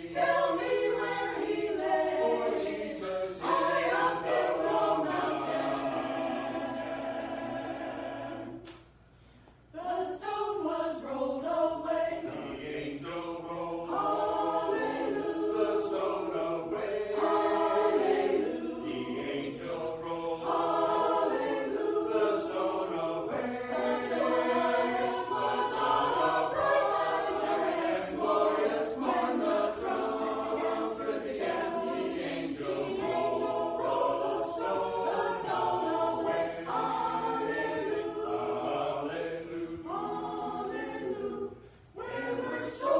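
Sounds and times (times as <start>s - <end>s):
church choir singing a hymn: 0.0s - 8.7s, 9.8s - 42.9s.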